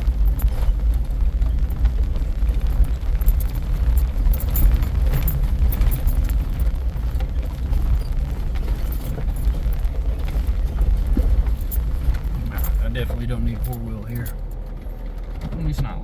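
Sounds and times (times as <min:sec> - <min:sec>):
rattling and clinking in cabin: 0:00.0 - 0:16.0
vehicle engine rumble: 0:00.0 - 0:16.0.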